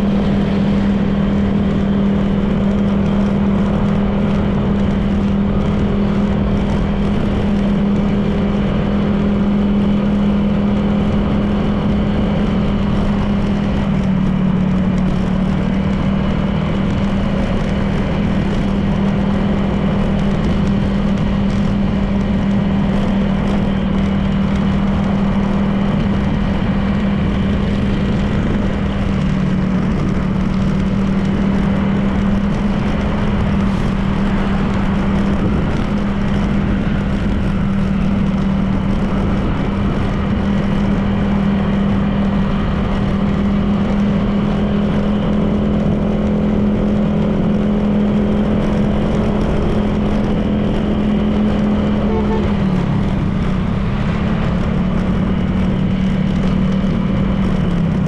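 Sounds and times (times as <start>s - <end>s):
road noise: 0.0s - 58.0s
scooter engine cruising: 0.0s - 58.0s.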